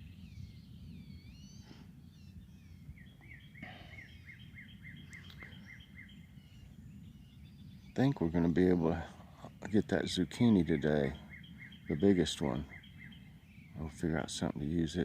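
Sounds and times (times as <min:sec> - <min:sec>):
songbirds whistling: 0:00.0 - 0:15.0
steady low rumble: 0:00.0 - 0:15.0.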